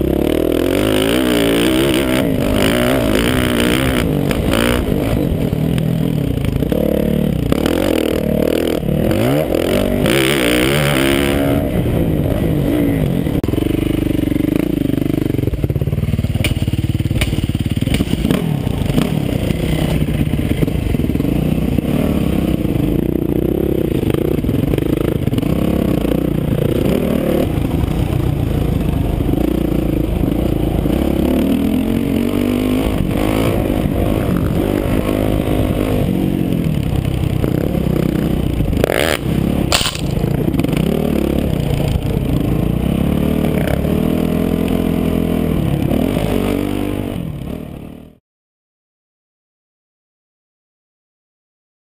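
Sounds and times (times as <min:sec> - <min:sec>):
dirt bike engine revving: 0:00.0 - 0:48.2.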